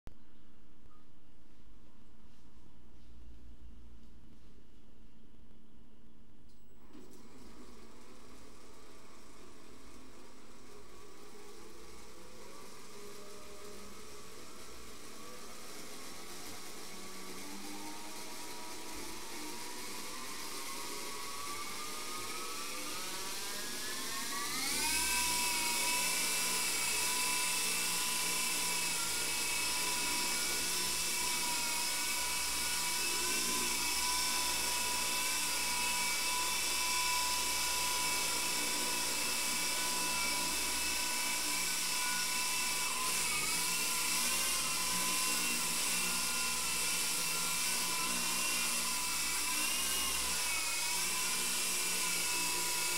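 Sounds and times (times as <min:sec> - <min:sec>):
toy helicopter motor whine: 0:07.1 - 0:52.9.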